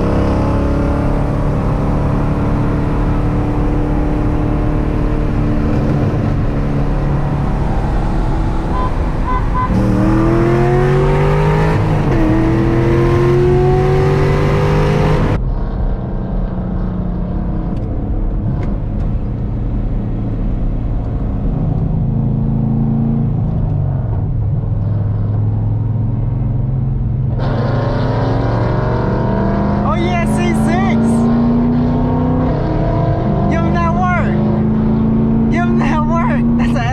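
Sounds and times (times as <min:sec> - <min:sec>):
car engine accelerating hard: 0:00.0 - 0:36.9
engine running at low revs: 0:00.0 - 0:36.9.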